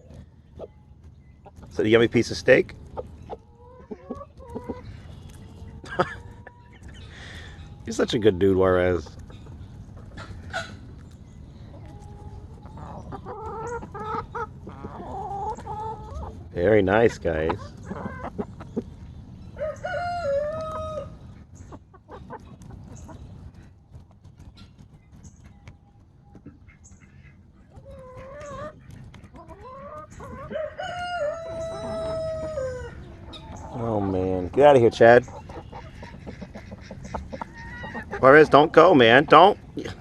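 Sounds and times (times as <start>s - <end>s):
chickens clucking: 0.0s - 40.0s
chickens wavering calls: 0.0s - 40.0s.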